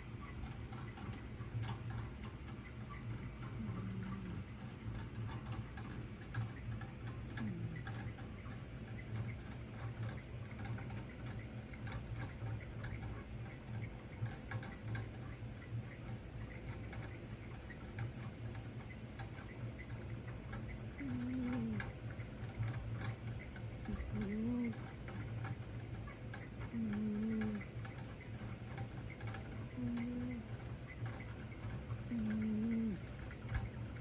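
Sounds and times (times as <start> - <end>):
ceiling fan humming and ticking: 0.0 - 34.0.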